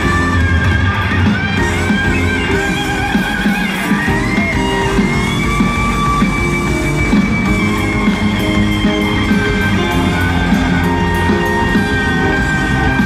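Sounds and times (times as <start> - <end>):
bass guitar: 0.0 - 13.0
drums: 0.0 - 13.0
electric lead guitar bending notes: 0.0 - 13.0.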